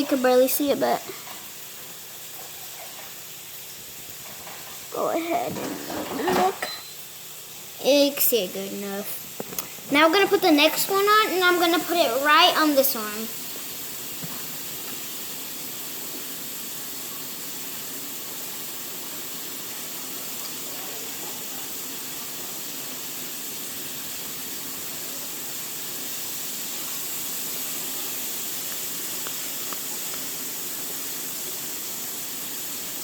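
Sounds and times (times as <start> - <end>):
steady high-pitched hiss: 0.0 - 33.0.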